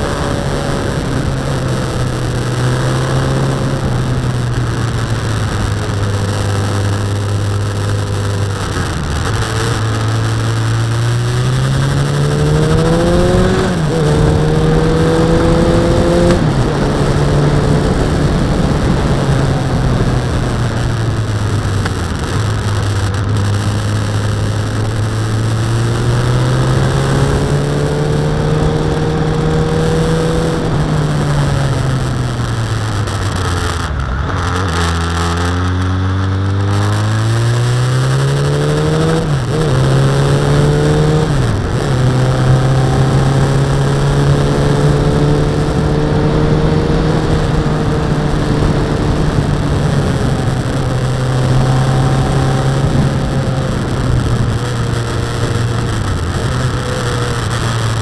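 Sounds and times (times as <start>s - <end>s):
motorcycle engine: 0.0s - 58.0s
wind rush on microphone: 0.0s - 58.0s.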